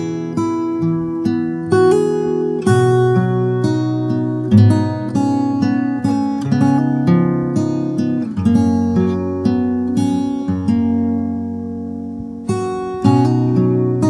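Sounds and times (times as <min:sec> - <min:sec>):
slow acoustic guitar music: 0:00.0 - 0:14.0.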